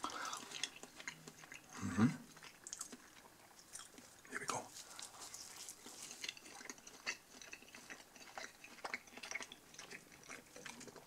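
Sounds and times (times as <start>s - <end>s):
chewing crust: 0.0s - 11.0s.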